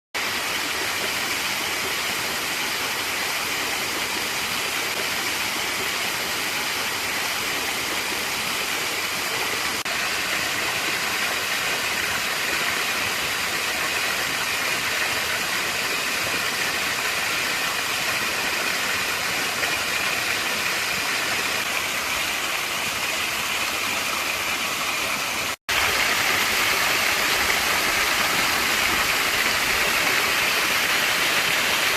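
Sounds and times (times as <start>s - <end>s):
small waterfall rushing: 0.2s - 31.9s.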